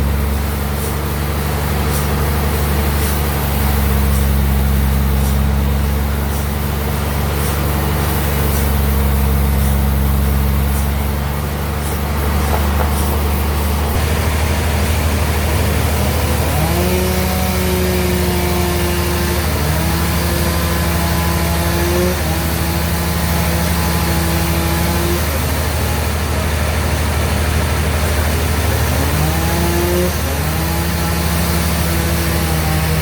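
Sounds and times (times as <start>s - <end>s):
bandsaw low hum: 0.0s - 33.0s.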